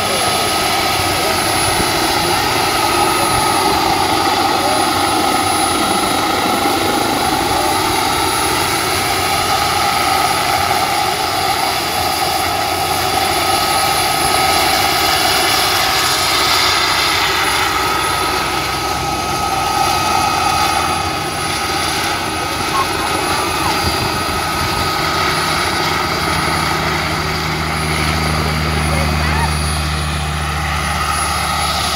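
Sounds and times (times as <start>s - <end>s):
model helicopter engine whine: 0.0s - 31.9s.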